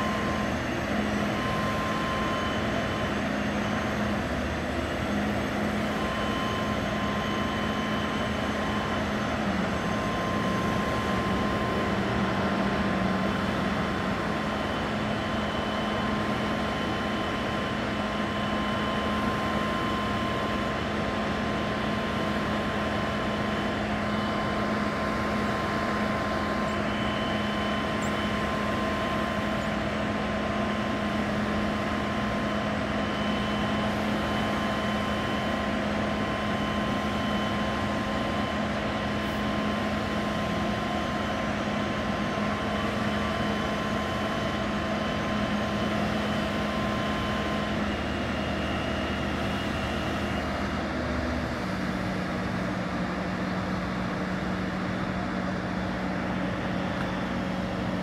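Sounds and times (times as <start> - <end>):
crane engine droning: 0.0 - 58.0.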